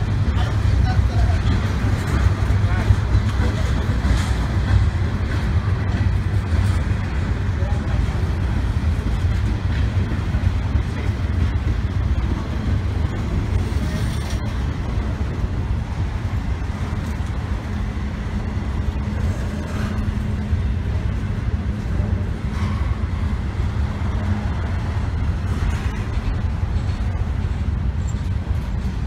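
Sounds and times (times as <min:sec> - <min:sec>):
freight cars rolling past: 0:00.0 - 0:29.0.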